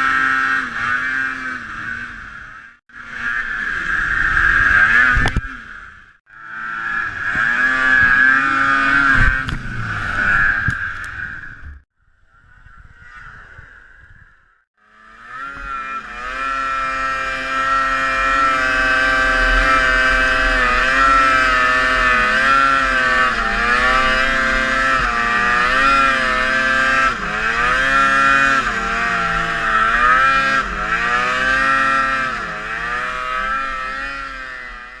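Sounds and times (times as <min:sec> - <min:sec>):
snowmobile engine revving: 0:00.0 - 0:11.8, 0:14.8 - 0:35.0.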